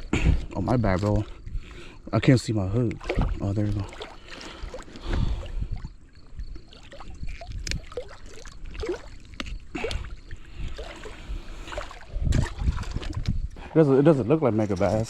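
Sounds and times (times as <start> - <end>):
wind rumbling on microphone: 0.0 - 3.9, 4.5 - 15.0
water lapping at boat: 0.0 - 15.0.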